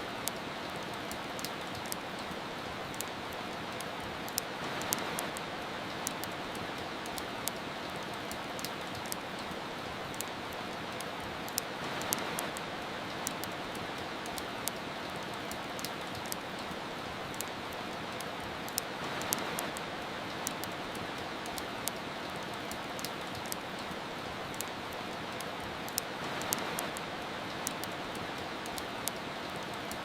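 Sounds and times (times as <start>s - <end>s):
soft rain: 0.0s - 30.0s
wood fire crackling: 0.1s - 30.0s.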